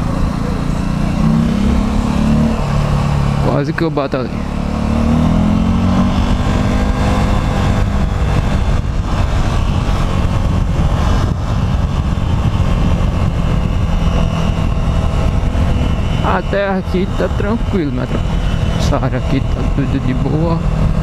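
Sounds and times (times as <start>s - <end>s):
low traffic rumble: 0.0s - 21.0s
motorcycle engine running: 0.0s - 21.0s.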